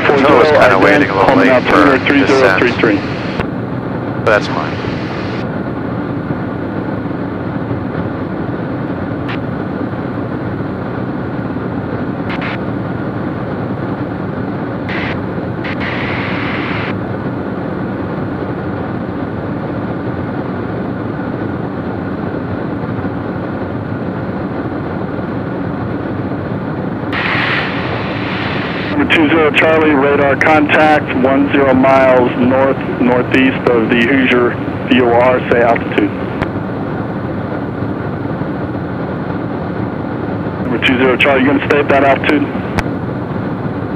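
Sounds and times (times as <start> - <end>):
airplane piston engine and propeller: 0.0 - 43.9.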